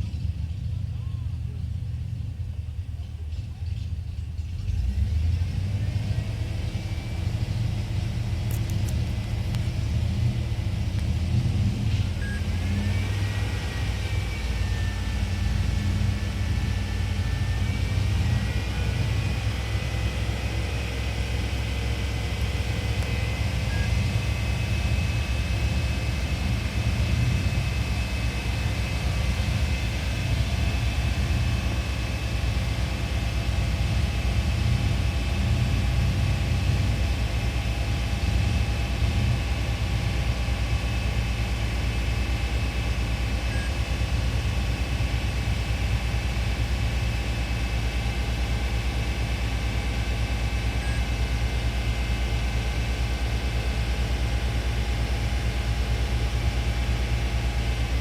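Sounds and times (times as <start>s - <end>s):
engine running with misfire: 0.0s - 58.0s.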